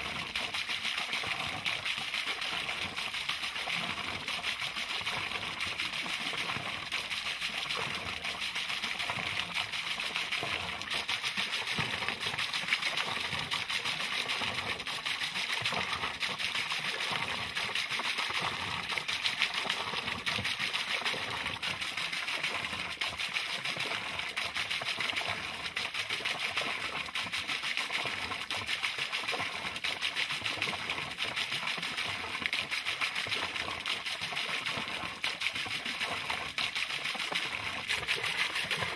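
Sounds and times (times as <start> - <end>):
water splashing onto water wheel: 0.0 - 38.9
water trickling into pond: 0.0 - 38.9.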